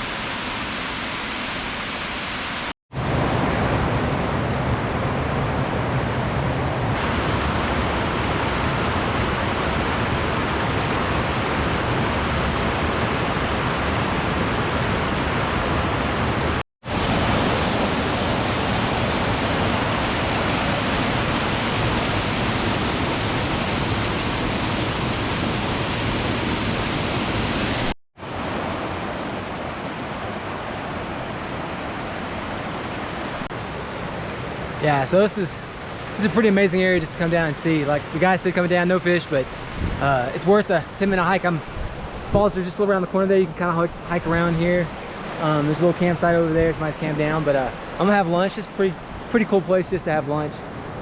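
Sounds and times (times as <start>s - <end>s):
creek and waterfall rushing: 0.0s - 51.0s.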